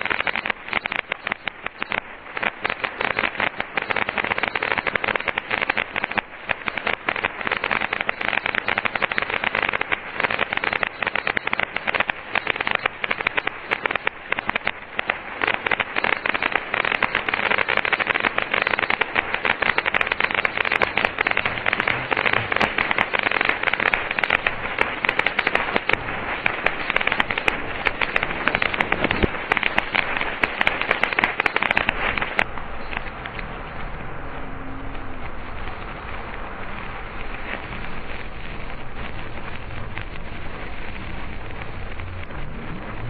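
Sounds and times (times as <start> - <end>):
fireworks crackling and popping: 0.0 - 43.0
steady hiss: 0.0 - 43.0.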